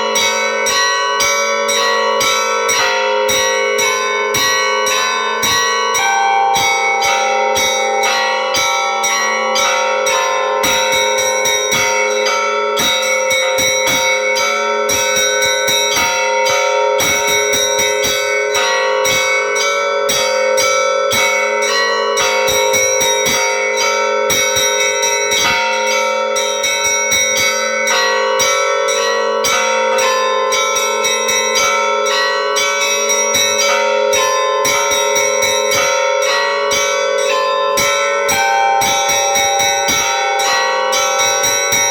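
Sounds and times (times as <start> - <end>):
church bells ringing: 0.0 - 41.9
low bell tones: 0.0 - 41.9.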